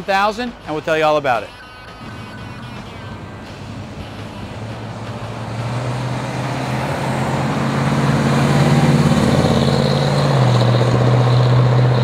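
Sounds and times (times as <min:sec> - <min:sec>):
car engine driving past: 0:02.0 - 0:12.0.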